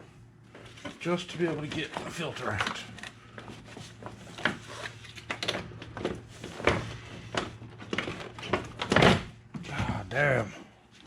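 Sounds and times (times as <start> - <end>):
knocks and clunks of plastic parts: 0.6 - 10.2.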